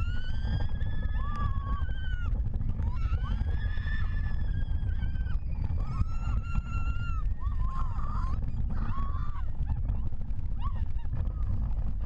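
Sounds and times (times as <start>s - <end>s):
wind rushing on microphone: 0.0s - 12.0s.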